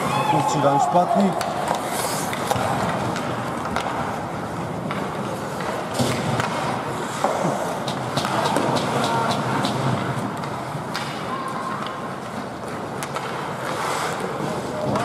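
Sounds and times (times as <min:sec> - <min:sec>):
hockey sticks and puck clacking: 0:00.0 - 0:15.0
skates scraping ice: 0:00.0 - 0:15.0.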